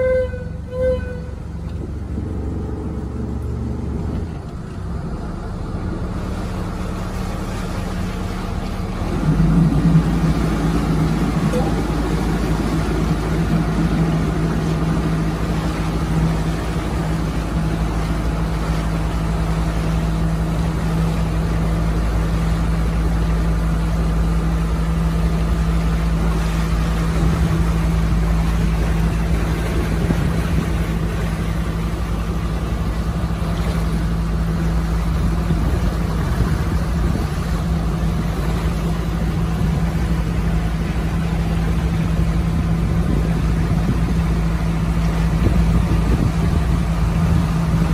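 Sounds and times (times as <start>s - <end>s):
boat engine droning: 0.0s - 47.9s.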